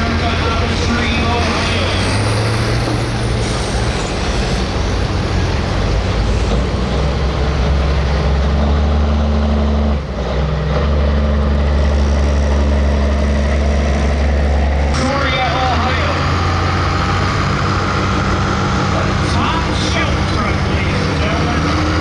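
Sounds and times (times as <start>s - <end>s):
diesel engine running hard: 0.0s - 22.0s.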